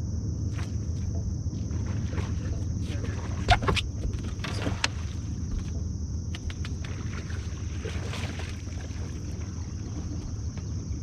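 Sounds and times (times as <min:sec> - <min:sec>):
low boat hum: 0:00.0 - 0:11.0.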